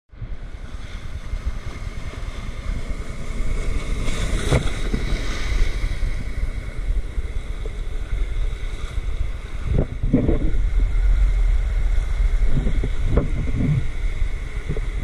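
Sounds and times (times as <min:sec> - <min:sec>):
ocean surf rumbling: 0:00.1 - 0:15.0
wind on microphone: 0:00.1 - 0:15.0
wave splashing over lens: 0:00.2 - 0:15.0.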